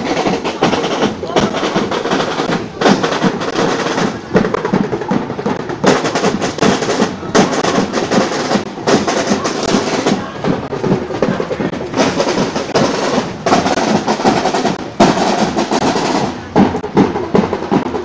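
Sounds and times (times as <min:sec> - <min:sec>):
marching snare and bass drums: 0:00.0 - 0:18.0.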